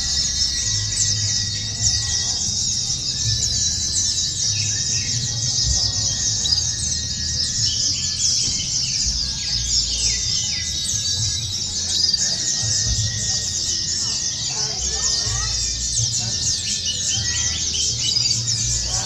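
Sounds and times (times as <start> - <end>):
chorus of birds twittering: 0.0 - 19.0.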